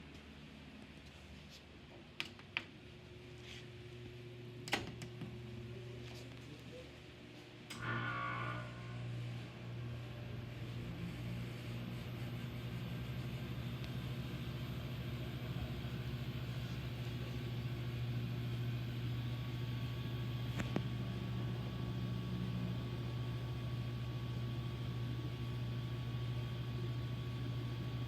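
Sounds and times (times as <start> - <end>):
air conditioner compressor humming: 0.0 - 28.0.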